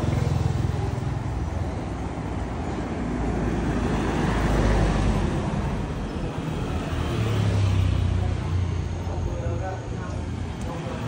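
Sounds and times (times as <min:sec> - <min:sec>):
road noise: 0:00.0 - 0:11.0
vehicle engines humming: 0:00.0 - 0:11.0.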